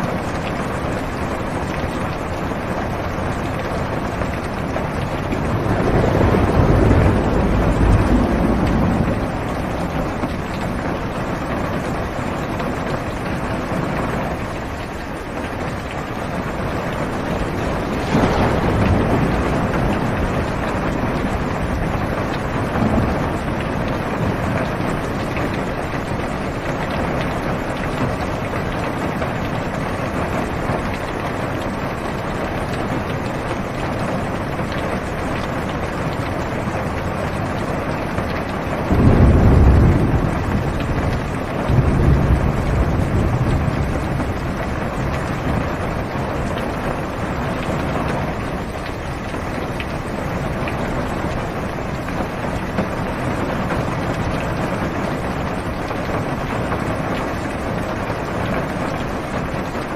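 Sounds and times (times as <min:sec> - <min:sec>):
heavy rain on car roof: 0:00.0 - 0:59.9
low rumble of thunder: 0:00.0 - 0:59.9.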